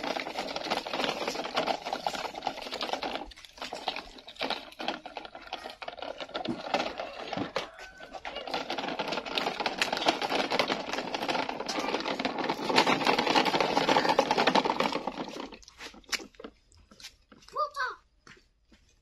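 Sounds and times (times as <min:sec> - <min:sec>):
plastic toy truck rattling: 0:00.0 - 0:16.9.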